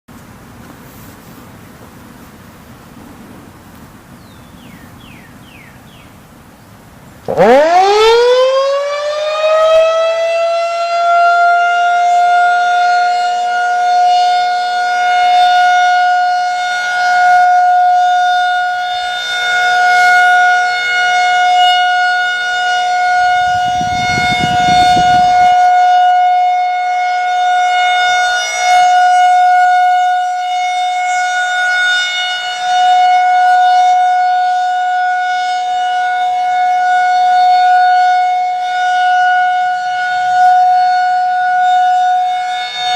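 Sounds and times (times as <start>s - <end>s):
rotating warning siren: 7.2s - 42.9s.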